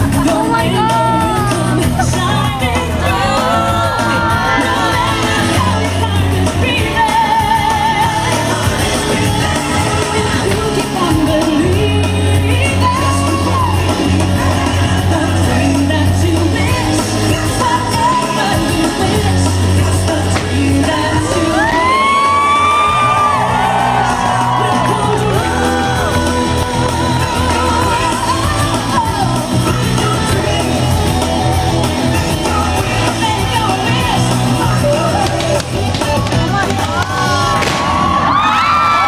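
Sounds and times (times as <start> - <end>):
crowd shouting and yelling: 0.0 - 39.0
loud pop music with singing: 0.0 - 39.0.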